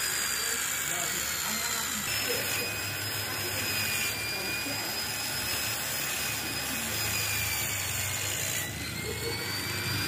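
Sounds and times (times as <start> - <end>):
power sander whining on metal: 0.0 - 10.0.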